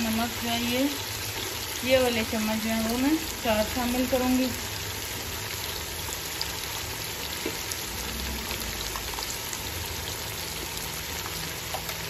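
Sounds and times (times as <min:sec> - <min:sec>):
meat frying in oil: 0:00.0 - 0:12.0.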